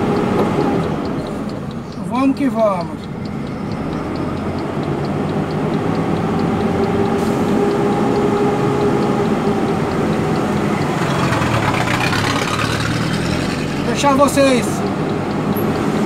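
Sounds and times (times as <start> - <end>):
faint regular ticking: 0.0 - 16.0
road noise: 0.0 - 16.0
truck engine running: 0.0 - 16.0.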